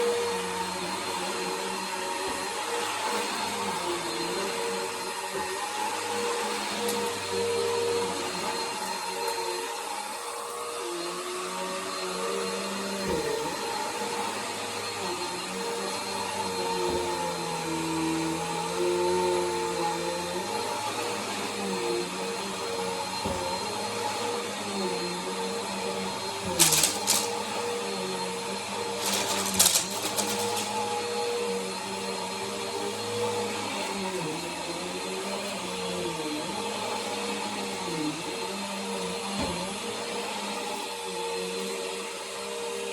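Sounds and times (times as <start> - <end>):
vacuum cleaner motor hum: 0.0 - 42.9.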